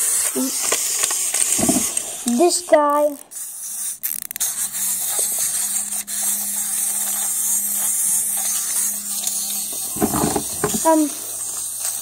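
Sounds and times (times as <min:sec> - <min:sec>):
wind-up toy winding clicks: 0:00.0 - 0:09.8, 0:10.8 - 0:12.0
clockwork motor buzzing: 0:00.0 - 0:12.0.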